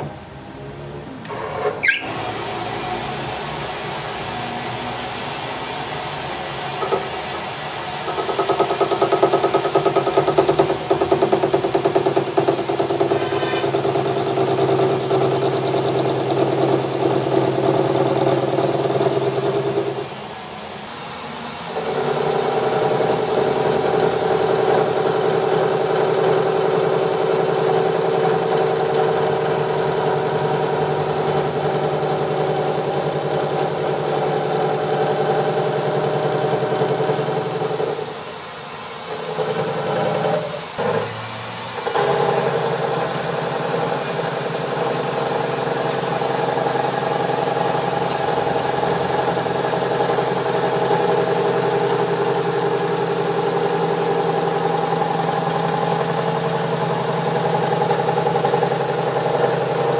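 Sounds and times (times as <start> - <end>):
workshop machine humming: 0.0 - 59.9.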